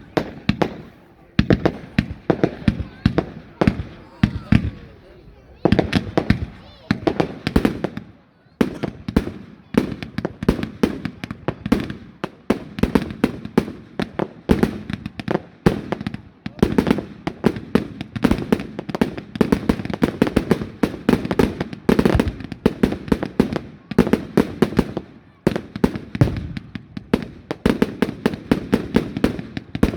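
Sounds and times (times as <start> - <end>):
fireworks banging and booming: 0.0 - 29.9.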